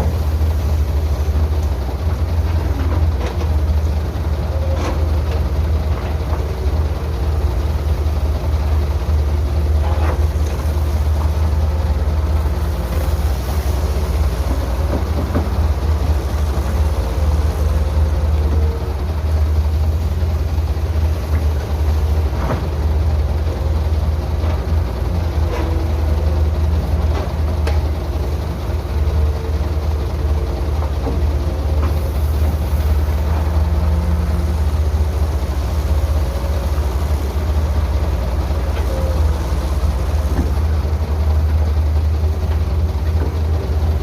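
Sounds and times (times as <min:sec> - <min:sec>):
heavy machinery diesel engine: 0:00.0 - 0:44.0.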